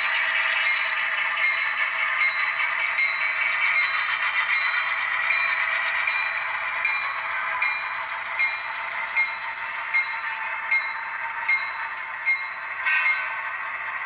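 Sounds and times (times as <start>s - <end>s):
model train mechanism whirring: 0.0s - 14.0s
sharp clicks of model train: 0.0s - 14.0s.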